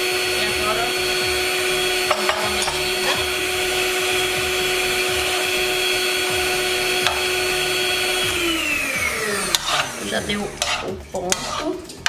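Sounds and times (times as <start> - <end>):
electric mixer whining: 0.0 - 11.5.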